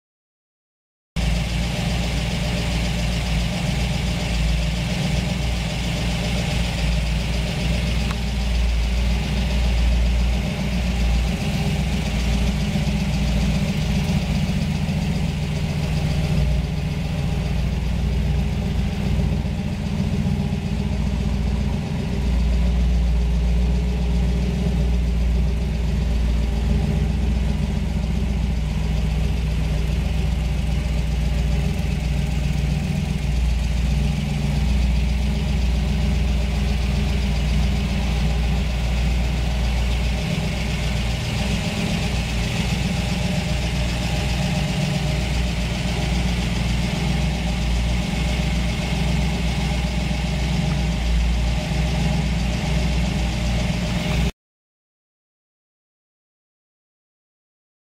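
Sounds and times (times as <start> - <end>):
car engine idling: 1.2 - 54.3.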